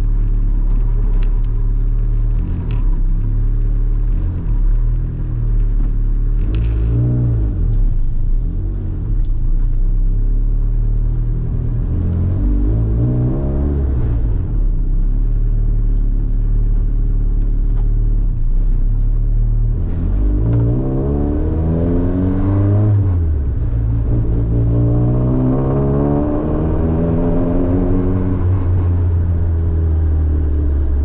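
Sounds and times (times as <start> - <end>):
car engine accelerating: 0.0 - 31.0
low road rumble: 0.0 - 31.0.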